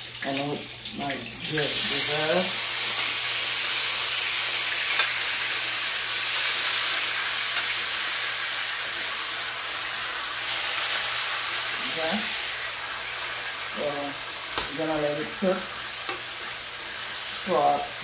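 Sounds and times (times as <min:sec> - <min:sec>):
skillet sizzling: 0:00.0 - 0:18.0.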